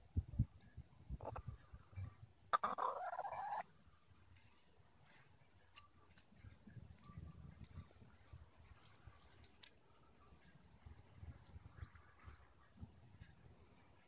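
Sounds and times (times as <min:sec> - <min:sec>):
hens scratching and pecking: 0:00.4 - 0:14.0.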